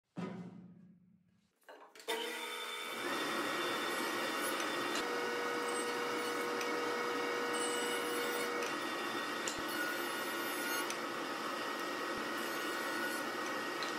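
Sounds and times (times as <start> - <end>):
jointer machine running: 2.1 - 13.9.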